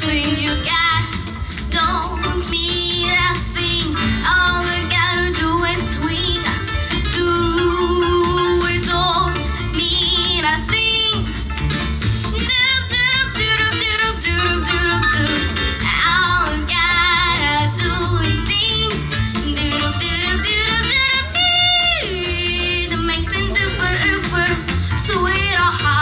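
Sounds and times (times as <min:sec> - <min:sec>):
woman singing pop song: 0:00.0 - 0:11.5, 0:12.2 - 0:26.0
instrumental accompaniment: 0:00.0 - 0:26.0.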